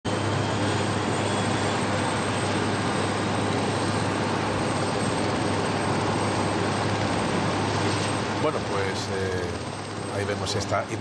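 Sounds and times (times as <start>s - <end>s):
helicopter idling: 0.1s - 11.0s.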